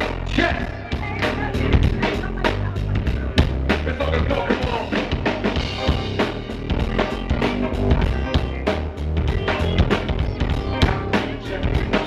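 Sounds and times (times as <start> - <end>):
drum kit beat: 0.0 - 12.0
heavy bass line: 0.0 - 12.0
live band music: 0.0 - 12.0.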